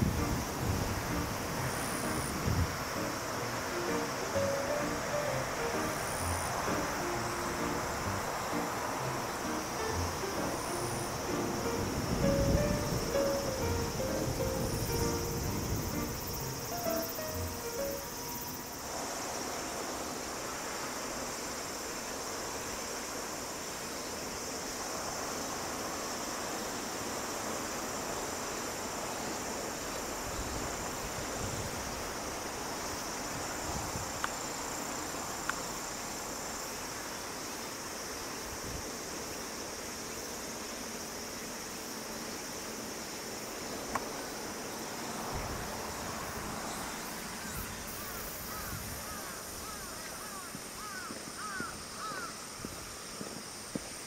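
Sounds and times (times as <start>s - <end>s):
background hiss: 0.0s - 54.0s
insects trilling: 0.0s - 54.0s.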